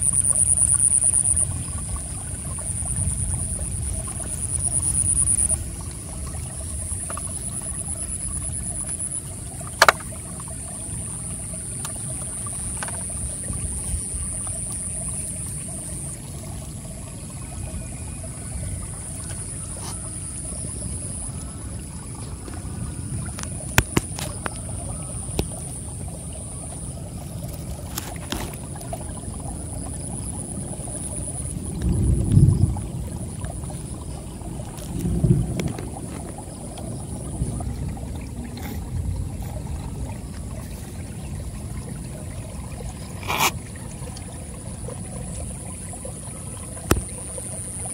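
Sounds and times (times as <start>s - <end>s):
crickets trilling: 0.0s - 47.9s
stream trickling over rocks: 0.0s - 47.9s.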